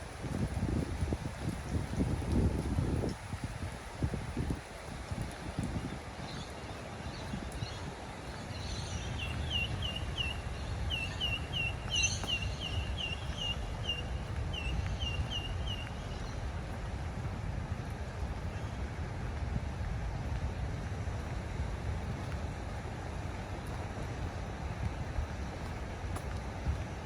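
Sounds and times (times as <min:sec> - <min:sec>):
low wind rumble: 0:00.0 - 0:27.0.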